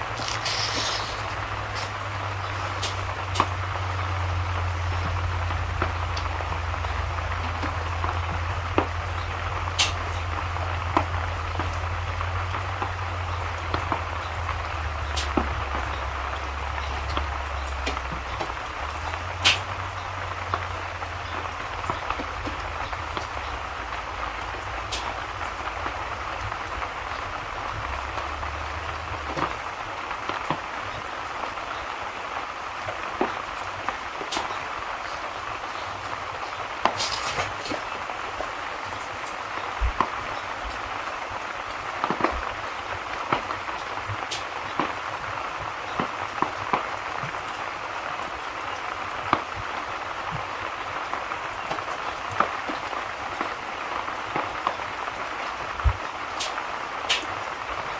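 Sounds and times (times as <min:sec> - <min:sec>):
sharp crackles and pops: 0:00.0 - 0:57.9
steady rain: 0:00.0 - 0:57.9.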